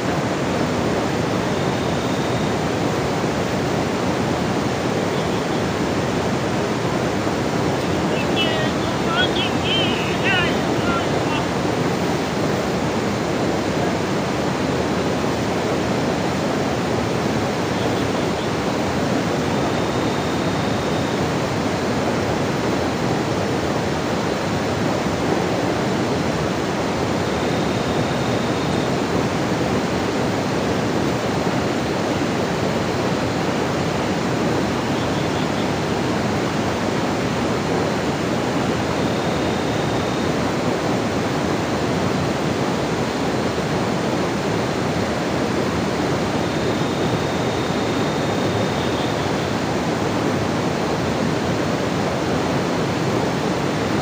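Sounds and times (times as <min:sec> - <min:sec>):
water rushing: 0:00.0 - 0:54.0.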